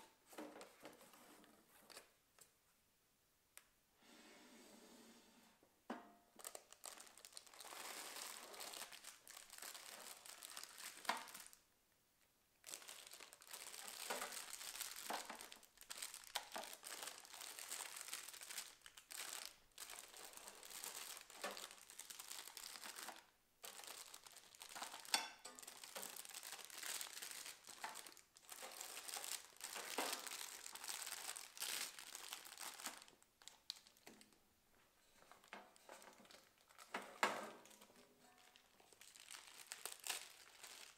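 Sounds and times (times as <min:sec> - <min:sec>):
plastic bags crinkling: 0:06.4 - 0:11.6, 0:12.6 - 0:34.4, 0:35.0 - 0:40.9.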